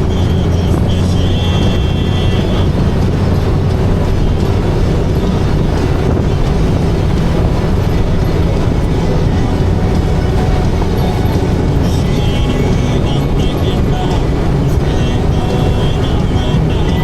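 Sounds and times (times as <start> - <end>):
motorcycle engine hum: 0.0 - 17.0
wind rushing: 0.0 - 17.0.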